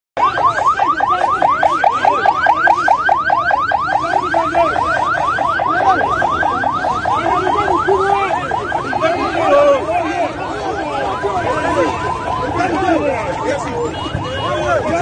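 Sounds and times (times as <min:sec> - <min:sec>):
electronic siren whooping: 0:00.2 - 0:15.0.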